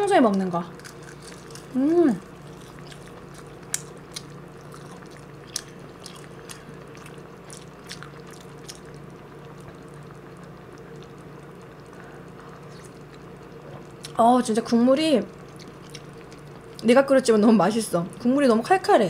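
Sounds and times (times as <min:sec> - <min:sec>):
quiet chewing: 0:00.3 - 0:14.2, 0:15.3 - 0:16.9.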